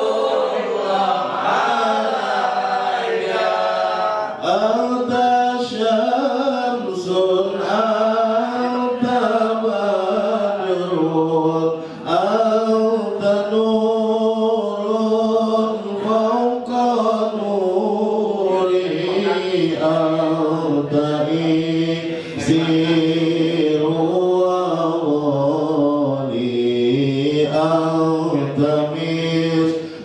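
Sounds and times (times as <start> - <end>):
man chanting into a microphone: 4.3 - 30.0.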